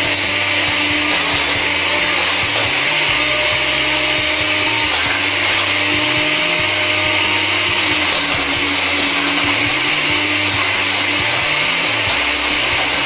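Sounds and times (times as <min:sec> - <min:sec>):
blender grinding a phone: 0:00.0 - 0:13.0.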